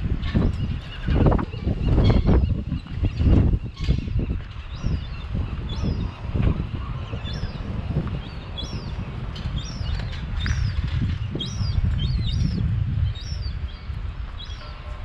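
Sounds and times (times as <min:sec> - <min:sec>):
wind buffeting the microphone: 0:00.0 - 0:15.0
birds chirping: 0:00.1 - 0:15.0.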